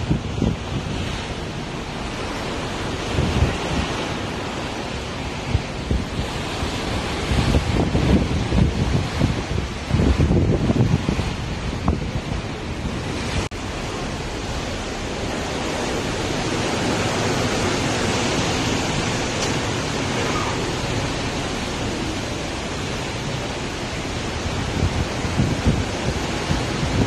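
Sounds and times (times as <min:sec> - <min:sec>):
choppy sea rushing: 0:00.0 - 0:27.0
wind buffeting microphone: 0:00.0 - 0:27.0.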